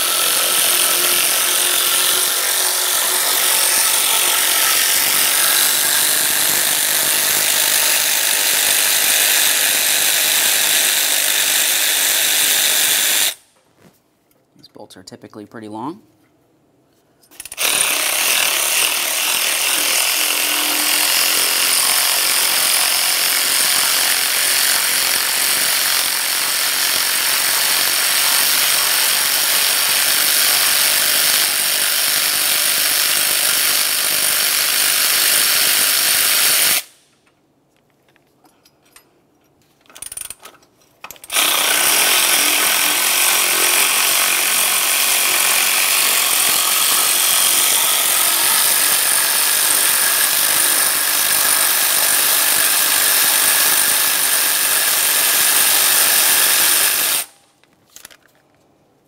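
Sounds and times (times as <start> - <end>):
power tool running: 0.0 - 13.4, 17.4 - 37.0, 41.2 - 57.3.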